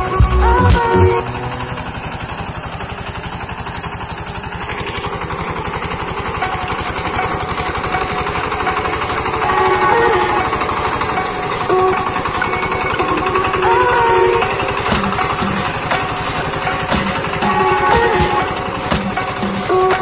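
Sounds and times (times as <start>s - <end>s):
tiller engine chugging: 0.0s - 20.0s.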